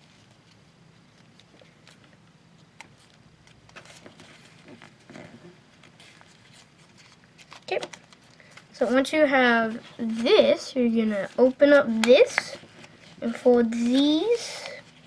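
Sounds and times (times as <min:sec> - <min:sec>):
paper crinkling and folding: 0:00.0 - 0:15.0.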